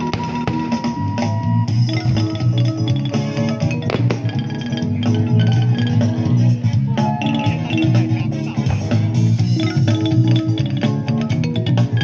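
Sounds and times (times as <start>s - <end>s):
music with strong bass line: 0.0s - 12.0s.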